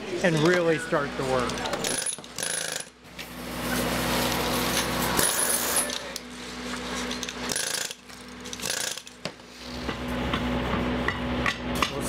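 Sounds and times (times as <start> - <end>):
pneumatic jackhammers chattering: 0.4 - 3.0, 3.6 - 12.0.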